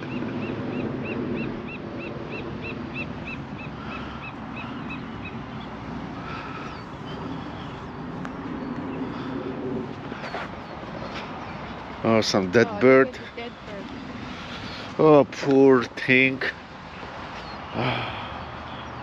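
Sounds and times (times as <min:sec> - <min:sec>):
surf and wind hiss: 0:00.0 - 0:19.0.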